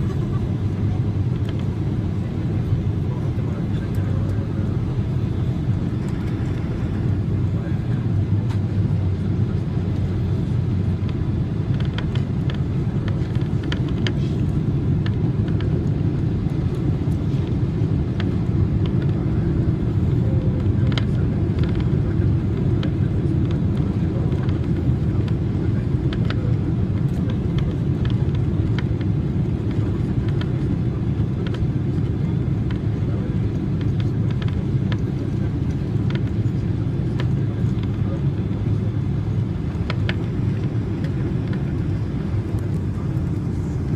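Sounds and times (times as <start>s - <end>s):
airliner cabin rumble: 0.0s - 43.9s.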